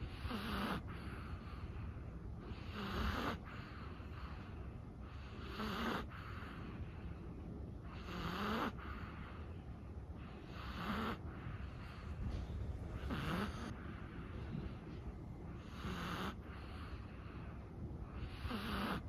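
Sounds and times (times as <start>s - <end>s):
dog snoring: 0.0s - 7.0s, 7.8s - 9.5s, 10.2s - 14.7s, 15.5s - 19.0s.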